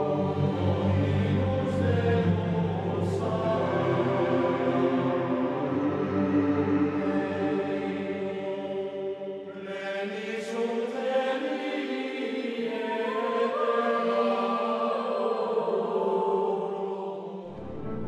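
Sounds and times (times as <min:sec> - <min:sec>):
choir-like chanting: 0:00.0 - 0:18.0.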